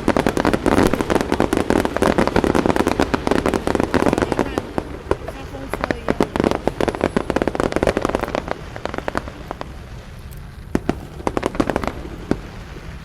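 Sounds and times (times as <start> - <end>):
fireworks cracking: 0.0 - 13.0.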